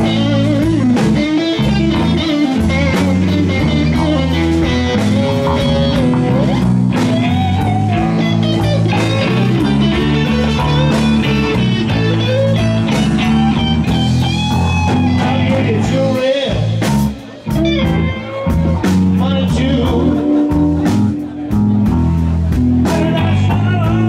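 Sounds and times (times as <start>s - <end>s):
blues-rock band playing: 0.0s - 24.0s
lead guitar bending notes: 0.0s - 24.0s.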